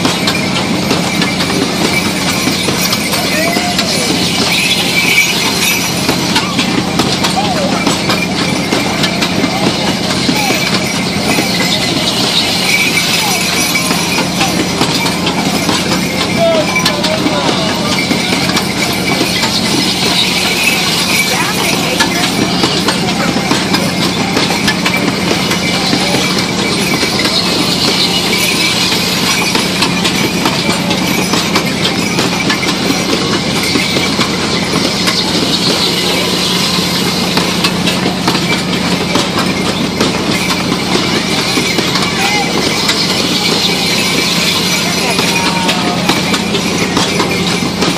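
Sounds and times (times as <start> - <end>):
crowd voices: 0.0 - 47.9
wooden carts rattling and clicking: 0.0 - 47.9.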